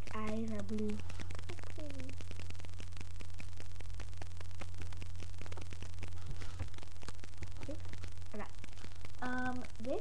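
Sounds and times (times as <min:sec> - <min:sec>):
crackling static: 0:00.0 - 0:10.0
low electrical hum: 0:00.0 - 0:10.0.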